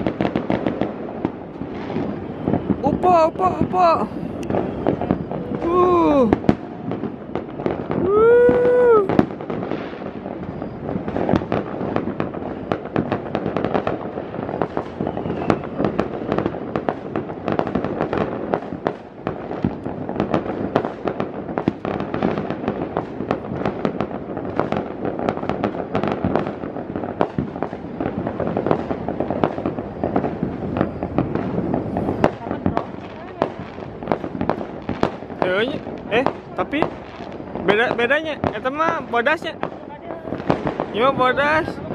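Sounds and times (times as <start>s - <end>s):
fireworks and firecrackers banging: 0.0s - 41.9s.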